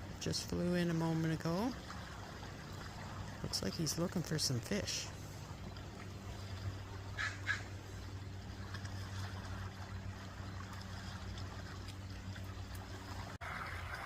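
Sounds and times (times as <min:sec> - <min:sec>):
low engine-like hum: 0:00.0 - 0:14.0.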